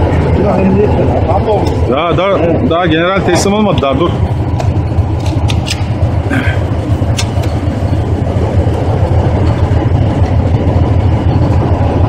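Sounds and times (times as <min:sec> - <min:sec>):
tank engine rumbling: 0:00.0 - 0:12.0.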